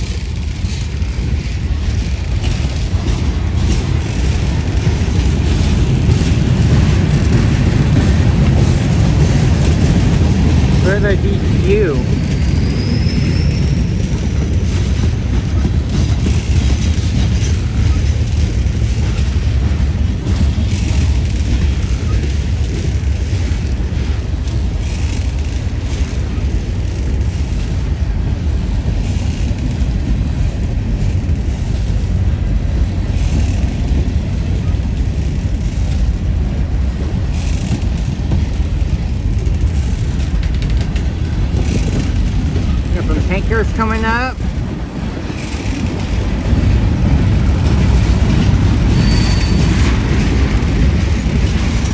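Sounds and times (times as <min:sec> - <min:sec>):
wind buffeting microphone: 0:00.0 - 0:24.9, 0:25.7 - 0:51.9
freight train wheels rumbling on rails: 0:00.0 - 0:51.9.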